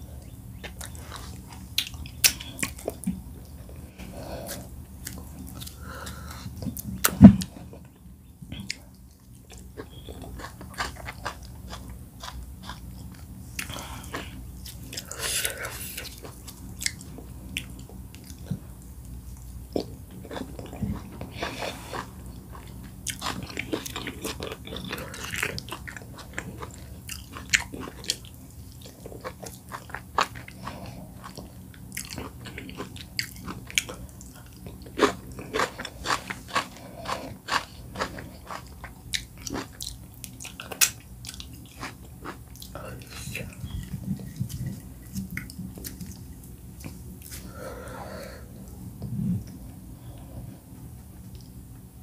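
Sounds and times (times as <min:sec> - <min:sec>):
person chewing: 0:00.2 - 0:51.6.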